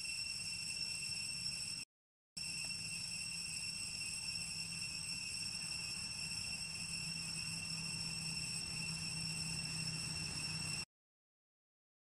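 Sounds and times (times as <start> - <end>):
insects droning: 0.0 - 10.9.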